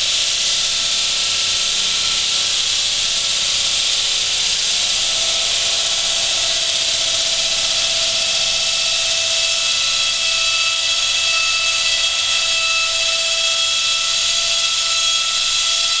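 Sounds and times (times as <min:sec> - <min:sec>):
wall saw cutting concrete: 0:00.0 - 0:16.0.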